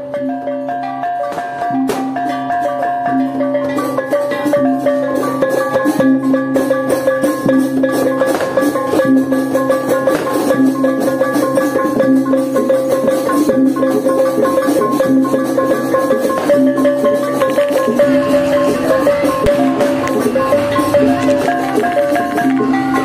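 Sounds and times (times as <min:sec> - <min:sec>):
bamboo xylophone melody: 0:00.0 - 0:23.0
drum and percussion hits: 0:00.0 - 0:23.0.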